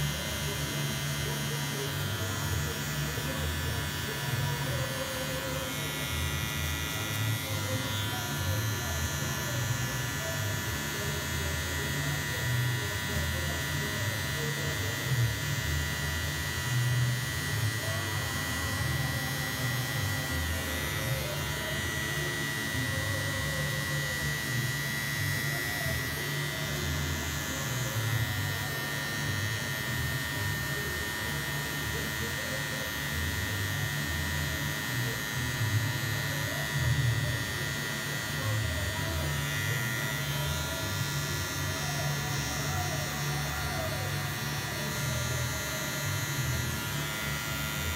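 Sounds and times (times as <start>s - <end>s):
electric hair clipper buzzing: 0.0s - 47.9s.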